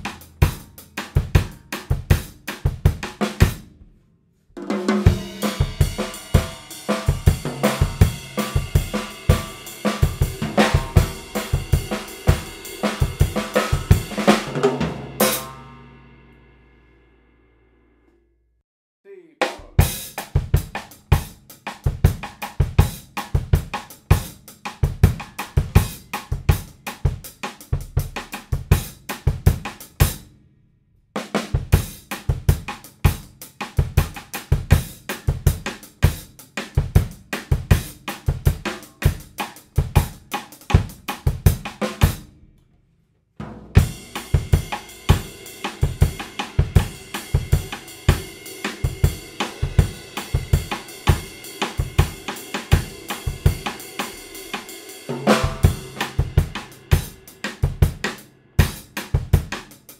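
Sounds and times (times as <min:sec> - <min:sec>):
background music with drum beat: 0:00.0 - 0:03.7, 0:04.6 - 0:15.6, 0:19.4 - 0:30.2, 0:31.3 - 0:42.3, 0:43.4 - 0:59.9.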